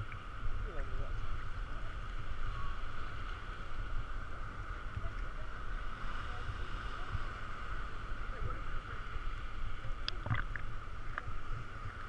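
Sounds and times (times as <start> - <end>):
sea water sloshing and lapping: 0.0 - 12.0.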